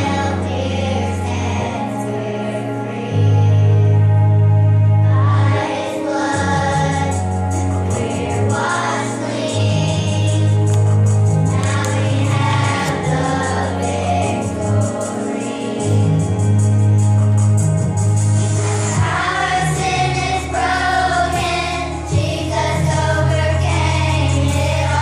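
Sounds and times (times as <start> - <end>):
children's choir singing: 0.0 - 4.2, 5.1 - 10.8, 11.5 - 16.4, 18.9 - 25.0
long steady bass notes: 0.0 - 25.0.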